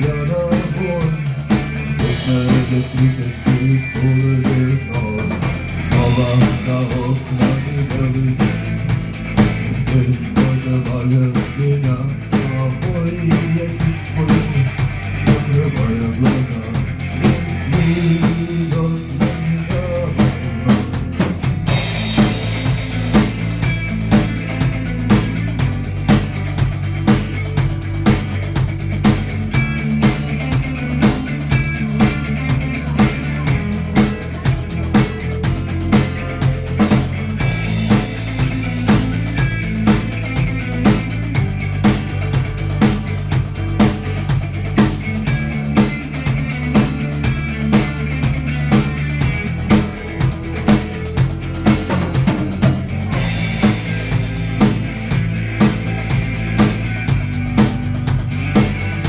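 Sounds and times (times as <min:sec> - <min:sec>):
drum kit beat: 0:00.0 - 0:59.0
sustained bass line: 0:00.0 - 0:59.0.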